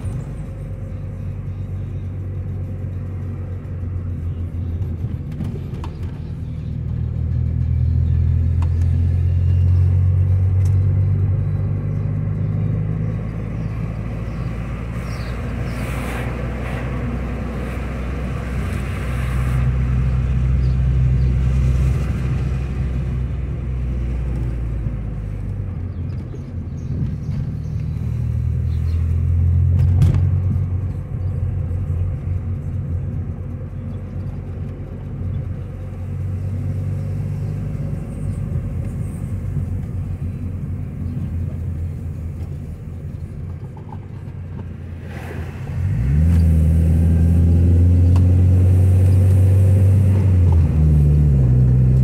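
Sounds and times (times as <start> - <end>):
car engine: 0.0 - 52.0
road noise: 0.0 - 52.0.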